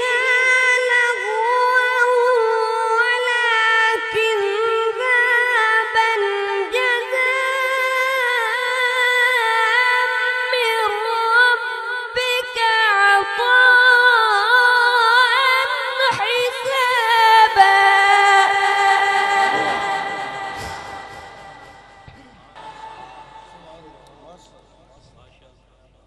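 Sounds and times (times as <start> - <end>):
boy chanting recitation: 0.0 - 21.9.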